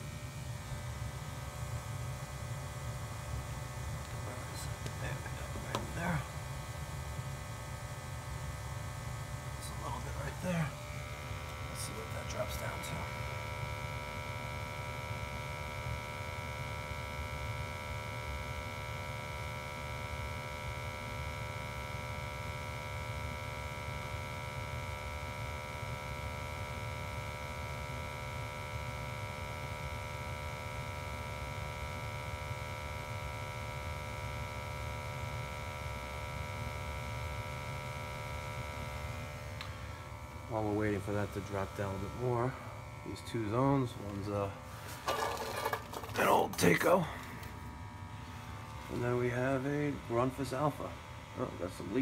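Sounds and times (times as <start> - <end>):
boiler burner rumbling: 0.0 - 52.0.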